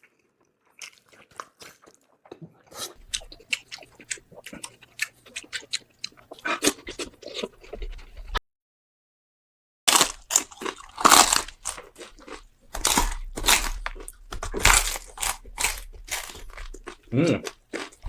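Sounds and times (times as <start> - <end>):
person chewing crunchily: 0.0 - 8.4, 9.9 - 18.0.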